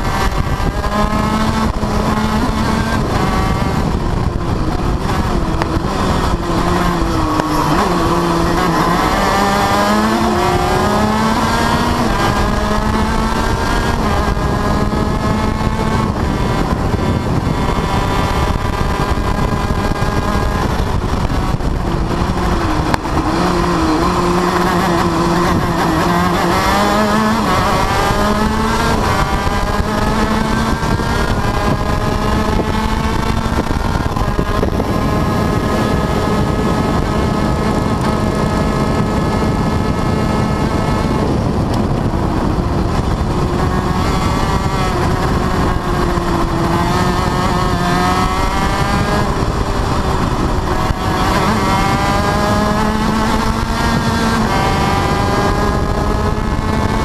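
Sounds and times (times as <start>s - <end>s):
kart engine revving: 0.0s - 57.0s
road and wind noise: 0.0s - 57.0s.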